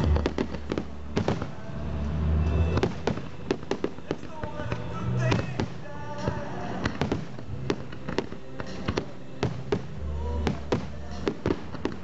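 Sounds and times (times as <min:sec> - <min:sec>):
fireworks bursting: 0:00.0 - 0:12.0
music playing: 0:00.0 - 0:12.0.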